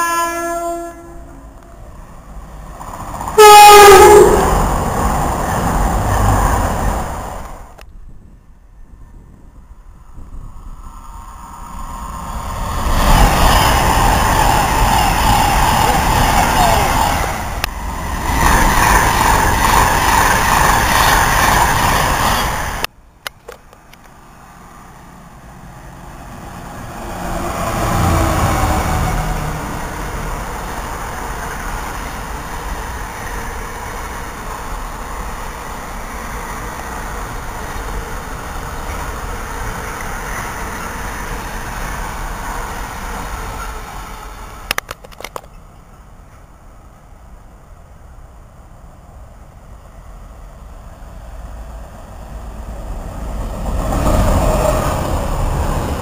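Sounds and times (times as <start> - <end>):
electric train passing at speed: 0.0 - 56.0
freight train passing: 0.0 - 56.0.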